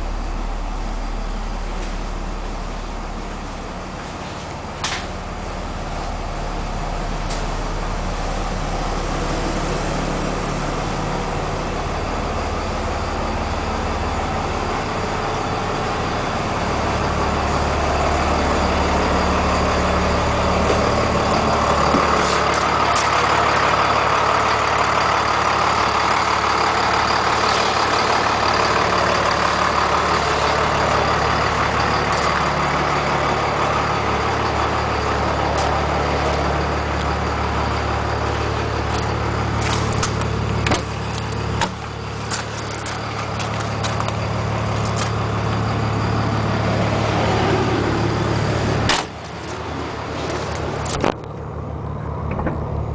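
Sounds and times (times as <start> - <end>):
diesel bus engine running: 0.0 - 52.9.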